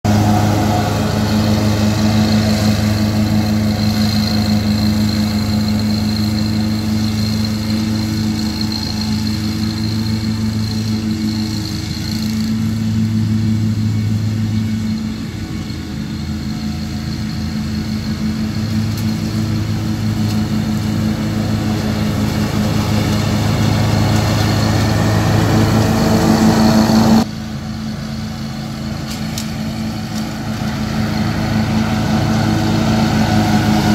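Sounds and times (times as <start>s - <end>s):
lawn mower engine hum: 0.0s - 33.9s.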